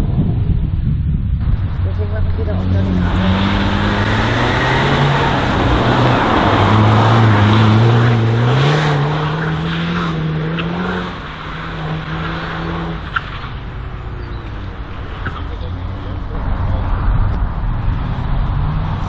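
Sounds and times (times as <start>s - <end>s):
race car engine revving: 1.4s - 19.0s.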